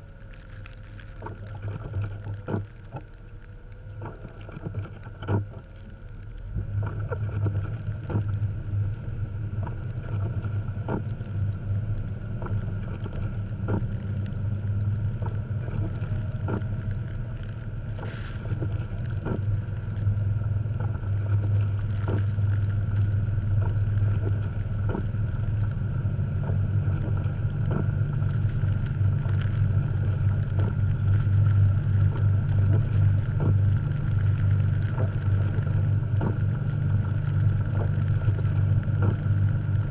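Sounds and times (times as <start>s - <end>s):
car engine running under load: 0.0s - 39.9s.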